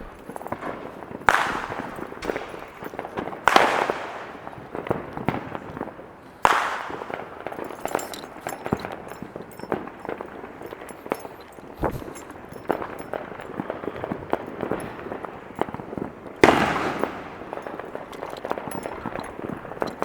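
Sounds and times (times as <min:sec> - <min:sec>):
loud firework bangs: 0:00.0 - 0:10.9, 0:11.8 - 0:19.8
firework pops and crackles: 0:00.0 - 0:20.0.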